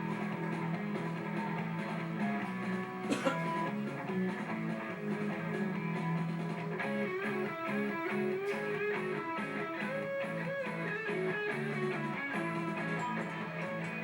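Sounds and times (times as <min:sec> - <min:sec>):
plucked and strummed guitar: 0:00.0 - 0:14.0.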